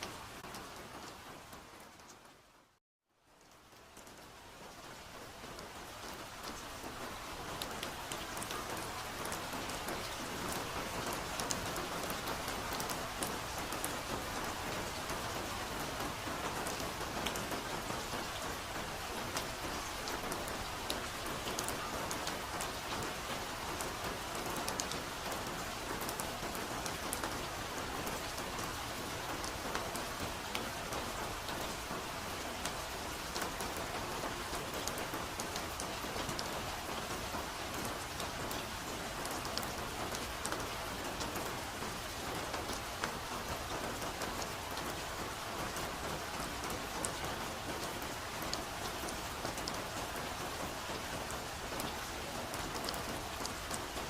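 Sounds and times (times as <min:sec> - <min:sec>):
soft rain falling on foliage: 0:00.0 - 0:54.0.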